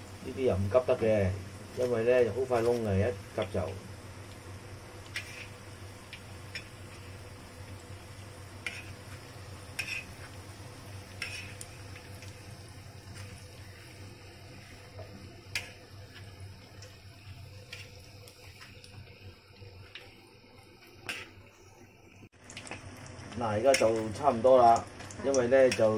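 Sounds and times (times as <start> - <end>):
deep-frying sizzle in oil: 0.0 - 25.9.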